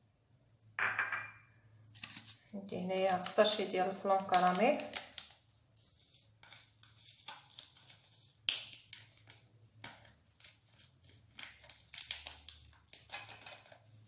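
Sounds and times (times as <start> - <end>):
paper sachet rustling: 1.9 - 14.0.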